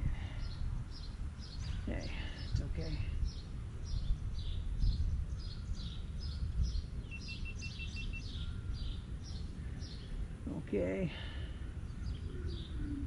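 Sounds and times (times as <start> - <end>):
low outdoor rumble: 0.0 - 13.0
songbird chirping: 0.0 - 13.0.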